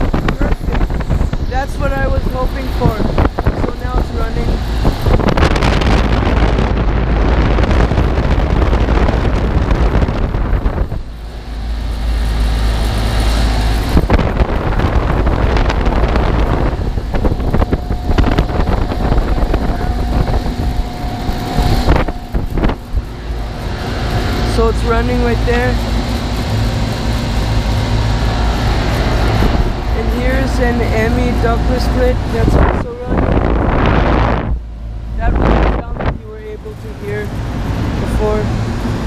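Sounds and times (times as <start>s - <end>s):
air buffeting microphone: 0.0s - 39.0s
air conditioner fans blowing: 0.0s - 39.0s
steady hum: 0.0s - 39.0s.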